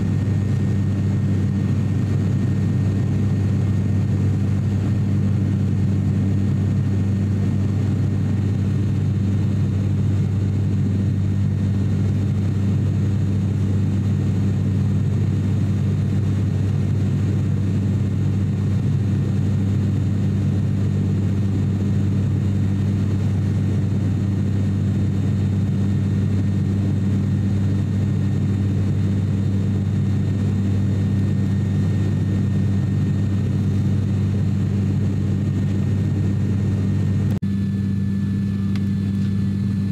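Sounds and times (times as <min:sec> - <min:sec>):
engine and airflow noise: 0:00.0 - 0:39.9
propeller hum: 0:00.0 - 0:39.9.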